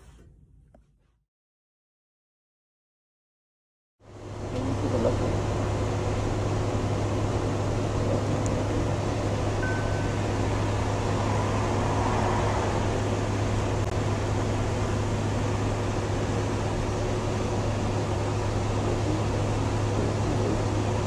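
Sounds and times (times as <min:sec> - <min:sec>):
steady machine hum with hiss: 0:04.0 - 0:21.0.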